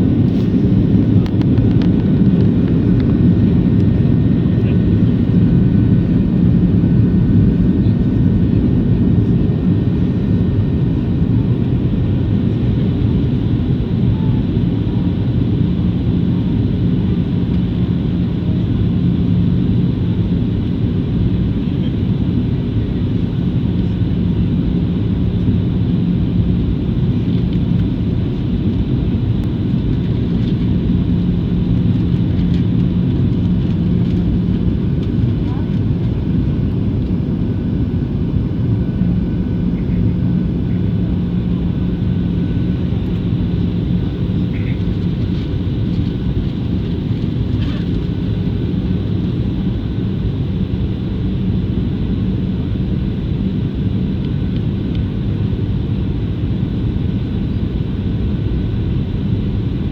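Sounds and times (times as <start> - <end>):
jet engines droning: 0.0 - 59.9.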